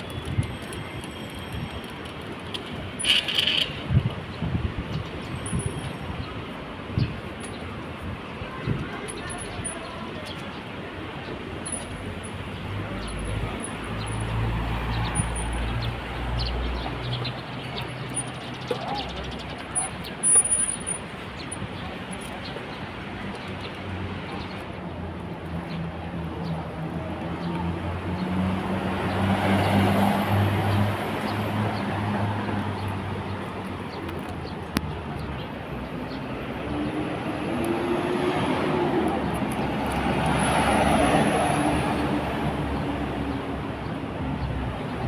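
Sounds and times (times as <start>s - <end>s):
city traffic hum: 0.0s - 45.0s
tyre and road noise: 0.0s - 45.0s.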